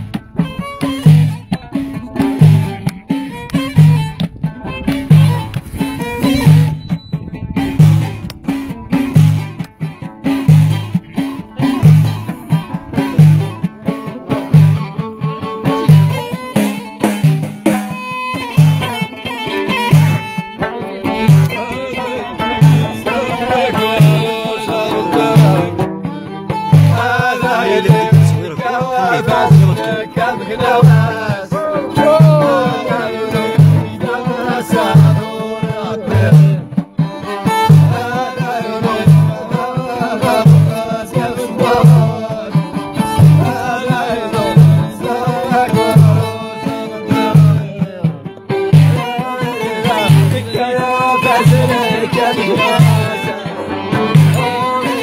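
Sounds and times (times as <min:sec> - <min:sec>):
frame drum beat: 0:00.0 - 0:55.0
plucked lute: 0:00.0 - 0:55.0
violin: 0:00.0 - 0:55.0
men singing: 0:10.2 - 0:25.9, 0:26.5 - 0:55.0.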